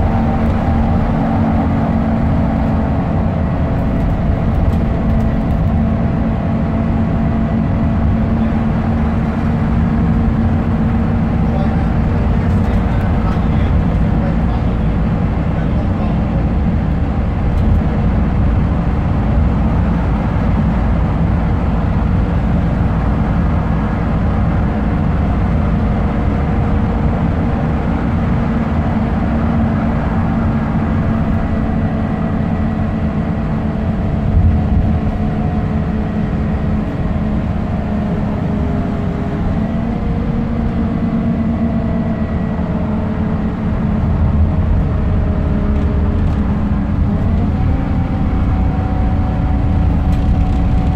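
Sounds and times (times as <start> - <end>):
diesel bus engine running: 0.0 - 50.9
road and tyre rumble: 0.0 - 50.9.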